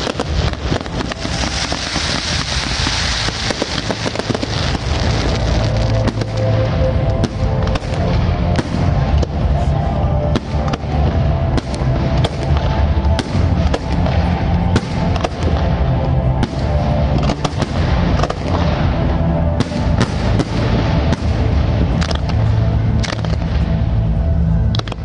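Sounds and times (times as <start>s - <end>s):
fireworks bangs: 0.0s - 25.0s
fireworks crackle: 0.0s - 25.0s
music: 0.0s - 25.0s.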